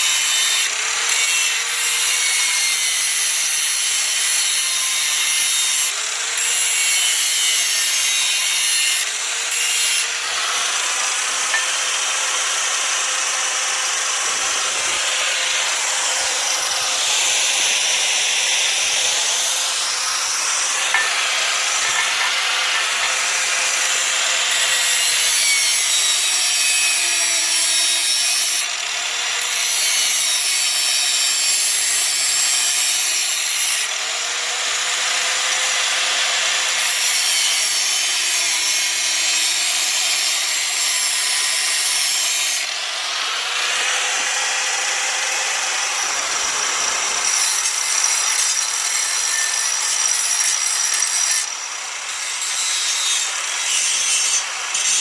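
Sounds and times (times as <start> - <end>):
angle grinder grinding steel: 0.0 - 55.0.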